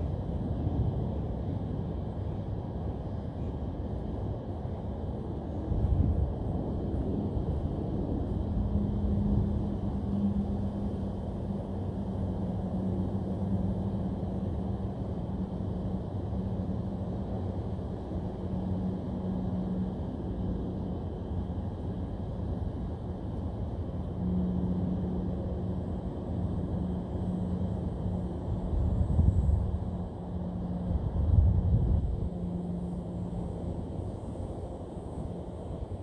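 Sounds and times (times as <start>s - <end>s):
constant low hum: 0.0s - 36.0s
low outdoor rumble: 0.0s - 36.0s.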